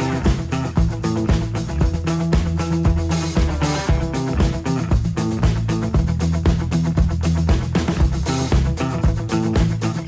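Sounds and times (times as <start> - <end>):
steady drum beat: 0.0 - 10.0
upbeat background music: 0.0 - 10.0.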